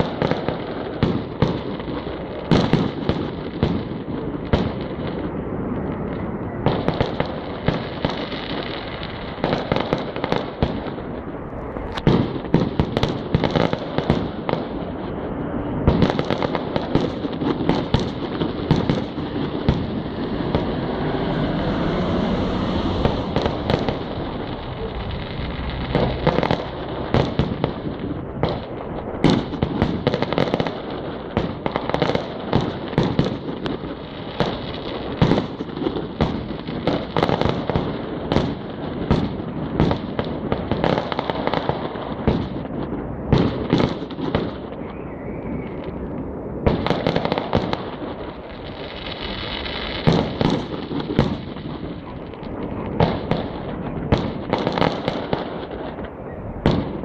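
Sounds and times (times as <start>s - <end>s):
constant hiss and rumble: 0.0s - 57.0s
fireworks bangs and pops: 0.0s - 57.0s.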